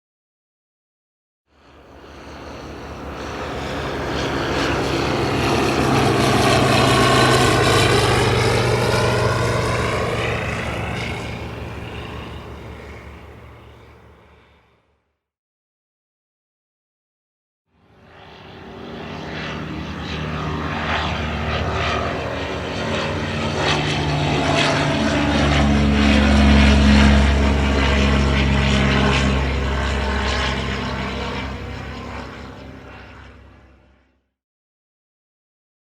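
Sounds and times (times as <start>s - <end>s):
propeller airplane flying past: 1.5s - 15.0s, 17.8s - 34.2s.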